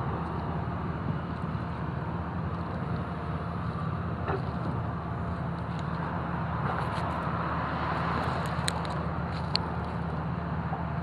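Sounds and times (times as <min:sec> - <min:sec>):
construction machine engine drone: 0:00.0 - 0:11.0.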